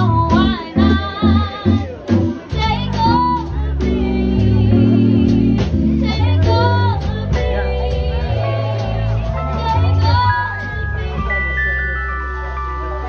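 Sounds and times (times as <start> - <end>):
woman singing: 0.0 - 11.6
drum kit playing: 0.0 - 13.0
keyboard playing chords and bass: 0.0 - 13.0.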